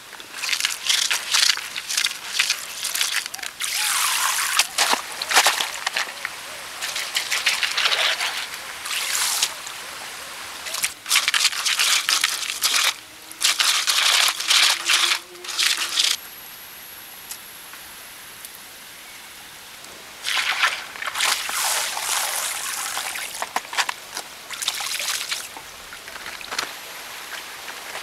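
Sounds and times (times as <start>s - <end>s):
water trickling and sloshing: 0.0s - 16.2s, 20.2s - 28.0s.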